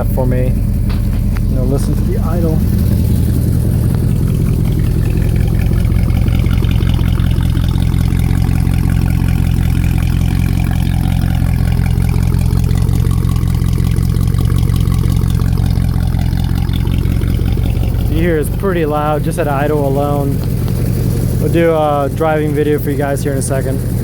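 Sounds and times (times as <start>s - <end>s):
loud car engine idling: 0.0s - 24.0s.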